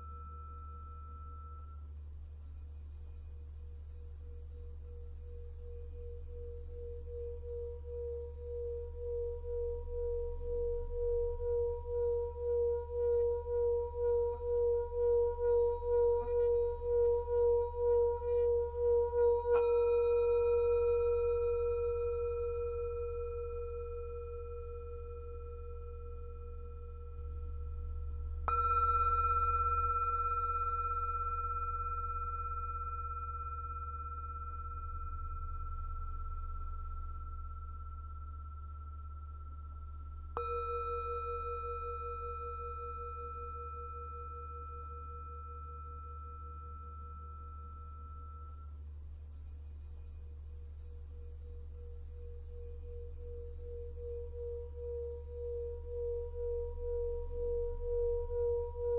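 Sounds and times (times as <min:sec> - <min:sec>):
singing bowl struck ringing: 0:00.0 - 0:02.5, 0:03.2 - 0:58.9
singing bowl rubbed tone: 0:00.0 - 0:58.9
steady low hum: 0:00.0 - 0:58.9.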